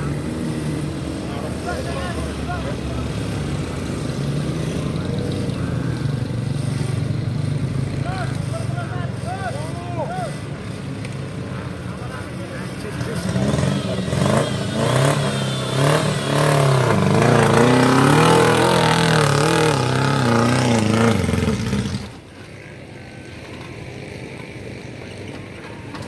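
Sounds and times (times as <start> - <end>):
off-road vehicle engine revving: 0.0 - 11.0, 12.2 - 23.0.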